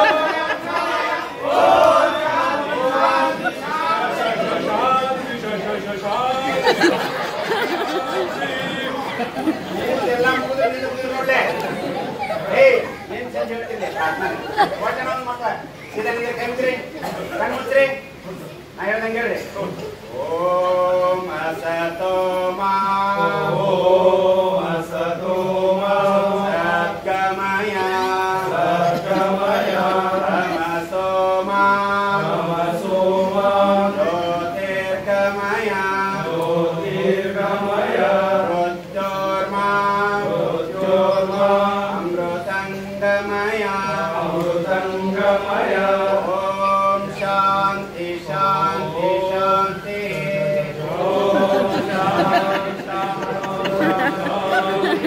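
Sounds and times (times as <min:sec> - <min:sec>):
group singing in unison: 0:00.0 - 0:12.3, 0:20.0 - 0:55.0.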